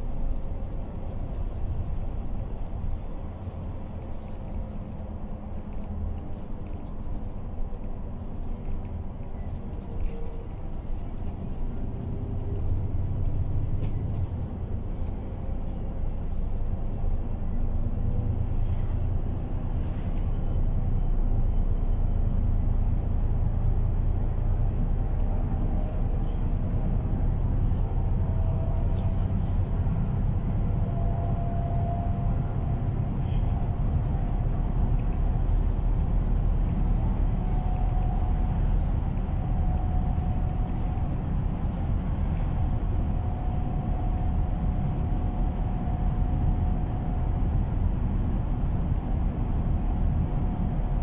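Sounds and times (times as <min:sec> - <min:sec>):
bus engine and road rumble: 0:00.0 - 0:51.0.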